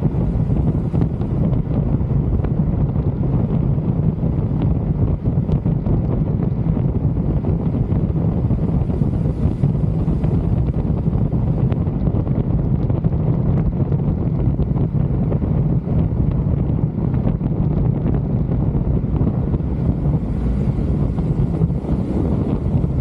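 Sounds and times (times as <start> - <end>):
low motorcycle hum: 0.0 - 23.0
wind buffeting microphone: 0.0 - 23.0.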